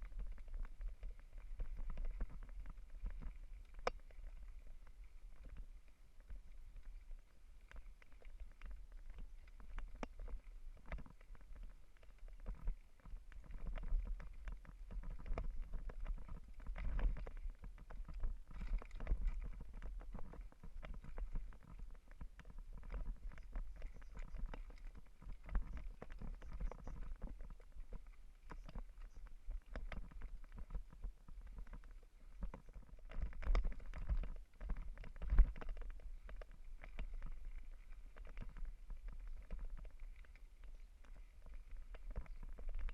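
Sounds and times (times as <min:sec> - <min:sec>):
bike rattling over rough trail: 0:00.0 - 0:07.3, 0:08.0 - 0:42.9.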